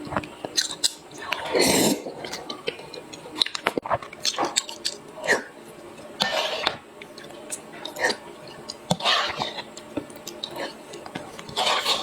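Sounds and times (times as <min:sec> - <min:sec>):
wet chewing and smacking: 0:00.0 - 0:01.6, 0:02.2 - 0:05.2, 0:06.0 - 0:12.0.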